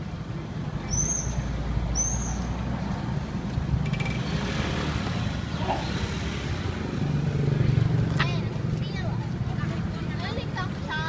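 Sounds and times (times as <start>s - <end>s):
vehicles passing by: 0.0s - 11.0s.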